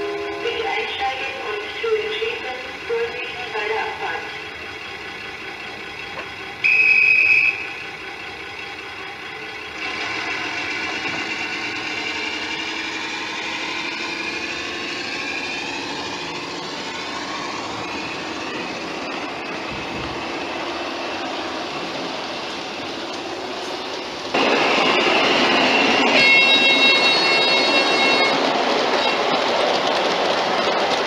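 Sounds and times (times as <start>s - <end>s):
simulated diesel engine running: 0.0s - 31.0s.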